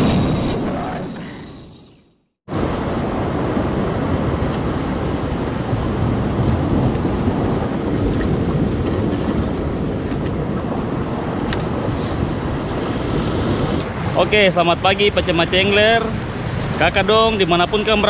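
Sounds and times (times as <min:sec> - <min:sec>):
wind on microphone: 0:02.5 - 0:17.1
surf washing on rocky shore: 0:02.5 - 0:18.0.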